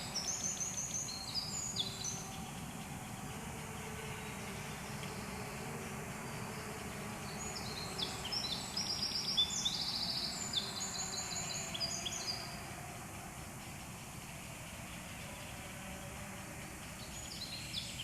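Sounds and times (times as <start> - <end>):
low rumble of machinery: 0.0 - 18.0
songbird singing: 0.0 - 18.0.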